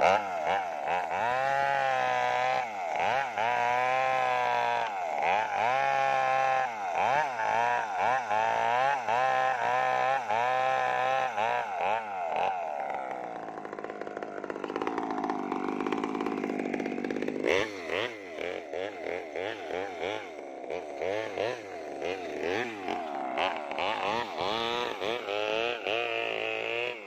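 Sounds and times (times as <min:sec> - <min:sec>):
chainsaw cutting through log: 0:00.0 - 0:27.0.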